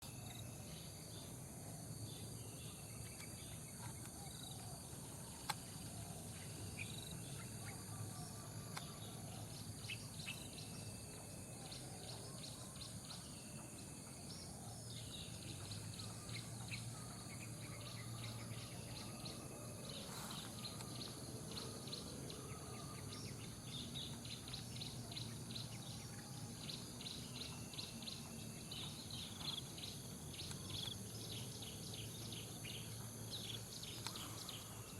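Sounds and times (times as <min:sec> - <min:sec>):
high insect drone: 0:00.0 - 0:34.9
small songbirds chirping: 0:00.0 - 0:34.9.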